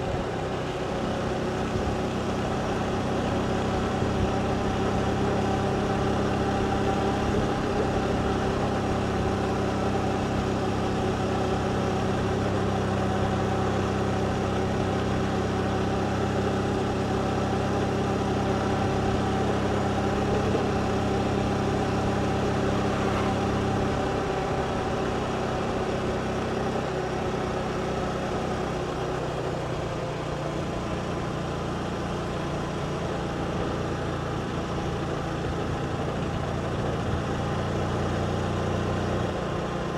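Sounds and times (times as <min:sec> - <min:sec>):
road and wind noise: 0:00.0 - 0:39.9
motorbike engine running: 0:00.1 - 0:39.9.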